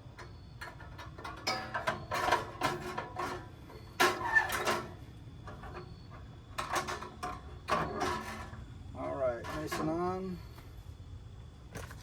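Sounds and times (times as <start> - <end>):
metal grill parts clattering: 0.1 - 10.2.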